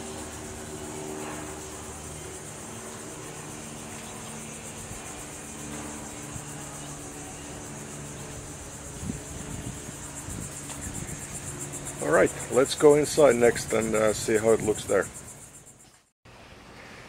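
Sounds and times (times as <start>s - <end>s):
insects buzzing: 0.0s - 16.1s
low machinery hum: 0.0s - 17.0s.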